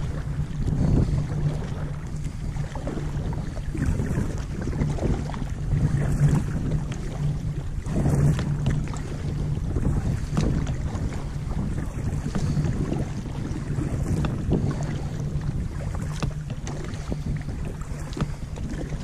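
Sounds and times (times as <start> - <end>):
boat motor humming: 0.0 - 19.0
wind noise on microphone: 0.0 - 19.0.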